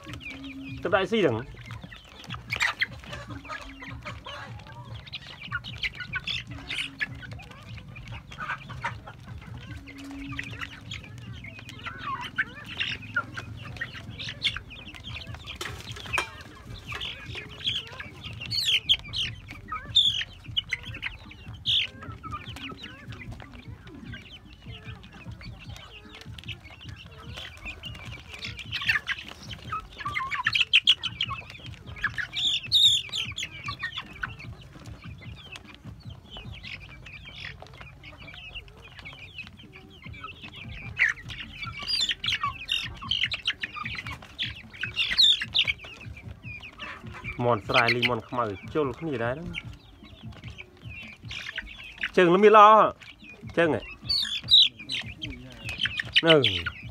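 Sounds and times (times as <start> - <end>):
chickens clucking and chicks cheeping: 0.0 - 56.9.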